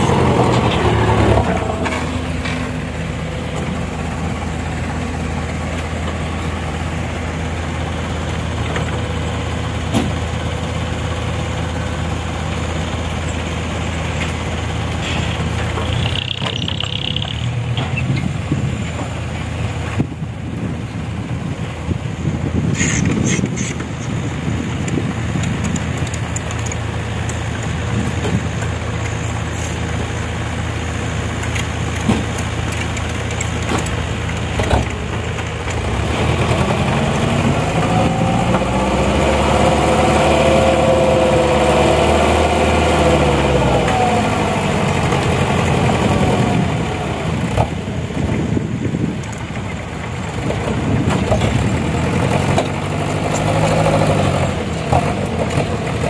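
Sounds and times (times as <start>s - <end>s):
diesel truck engine idling and revving: 0.0s - 56.0s.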